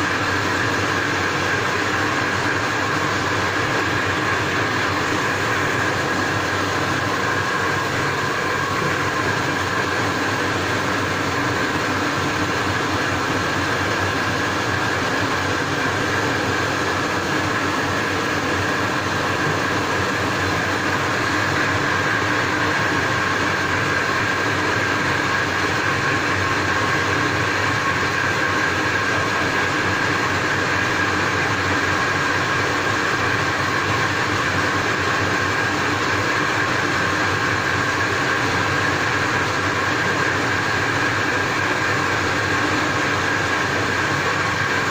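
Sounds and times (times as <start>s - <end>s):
steady machine drone: 0.0s - 44.9s.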